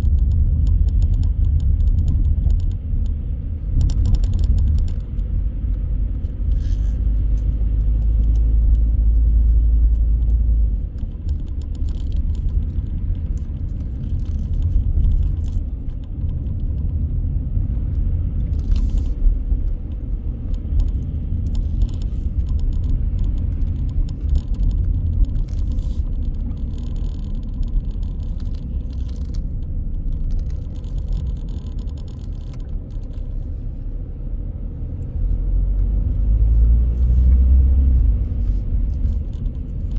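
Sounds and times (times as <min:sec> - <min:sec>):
light clicks and rattles: 0:00.0 - 0:34.1, 0:34.8 - 0:39.9
car road and engine rumble: 0:00.0 - 0:39.9.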